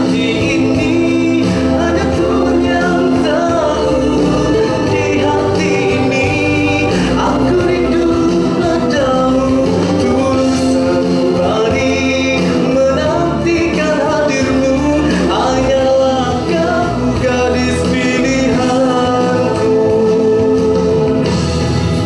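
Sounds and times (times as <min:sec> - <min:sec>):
man singing into a microphone: 0:00.0 - 0:21.3
instrumental accompaniment: 0:00.0 - 0:22.0.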